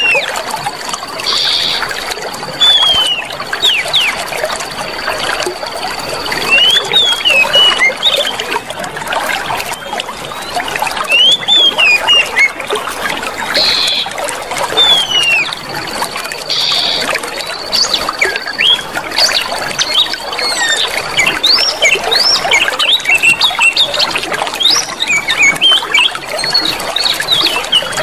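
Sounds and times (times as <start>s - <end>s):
small birds chirping: 0.0s - 2.0s, 2.6s - 4.4s, 5.1s - 8.6s, 9.4s - 12.6s, 13.5s - 15.6s, 16.4s - 28.0s
water running and trickling: 0.0s - 28.0s.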